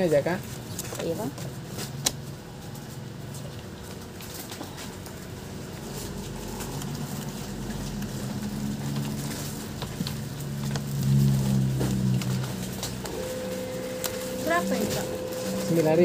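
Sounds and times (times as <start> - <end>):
low steady hum: 2.1 - 16.0.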